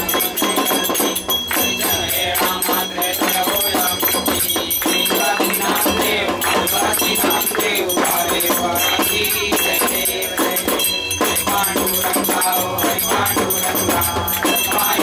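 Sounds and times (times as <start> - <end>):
crowd singing: 0.0 - 15.0
hand-clapping: 0.0 - 15.0
jingling percussion: 0.0 - 15.0
ringing hand bell: 0.0 - 15.0.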